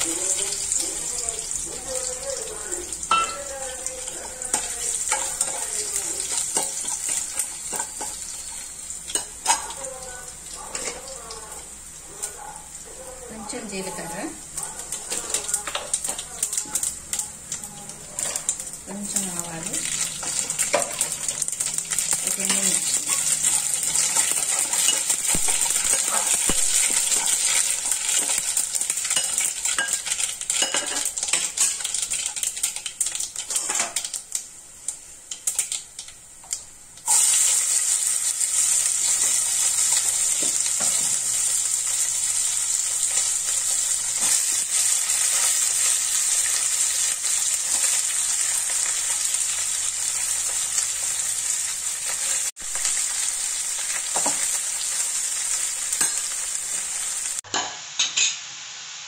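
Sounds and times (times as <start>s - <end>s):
seeds sizzling in hot oil: 0.0s - 59.0s.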